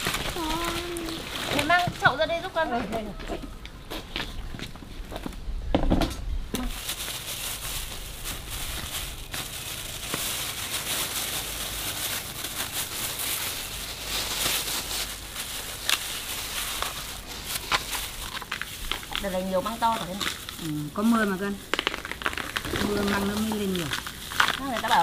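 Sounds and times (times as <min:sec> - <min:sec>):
plastic gloves crinkling: 0:00.0 - 0:05.0, 0:06.5 - 0:25.0
dry husk rustling: 0:00.0 - 0:05.5, 0:06.5 - 0:25.0.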